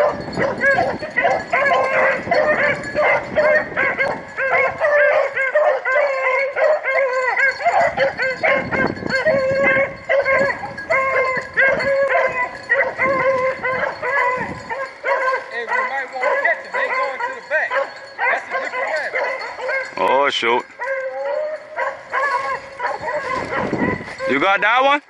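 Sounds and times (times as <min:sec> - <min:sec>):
hounds baying: 0:00.0 - 0:24.8.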